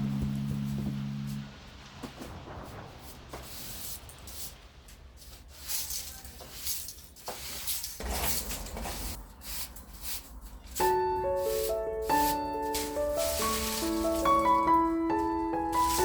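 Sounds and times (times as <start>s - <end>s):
rustling and scraping: 0.2s - 16.0s.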